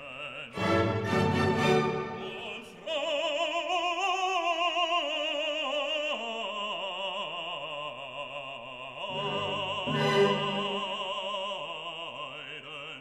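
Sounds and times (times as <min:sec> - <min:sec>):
operatic singing with vibrato: 0:00.0 - 0:13.0.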